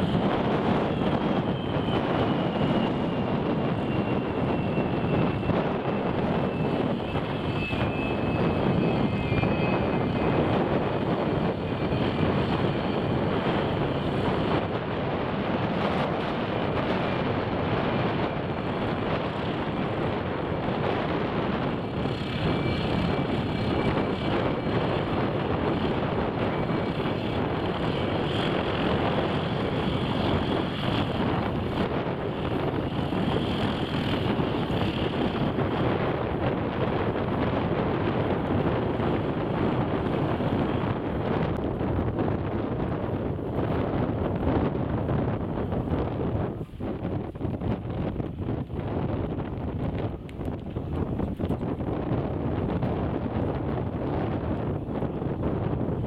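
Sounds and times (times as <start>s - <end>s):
aircraft engine noise: 0.0s - 56.0s
wind on microphone: 0.0s - 56.0s.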